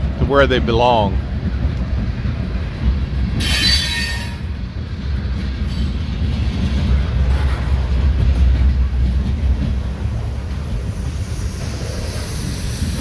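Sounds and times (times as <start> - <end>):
freight car wheels rumbling on rails: 0.0 - 13.0.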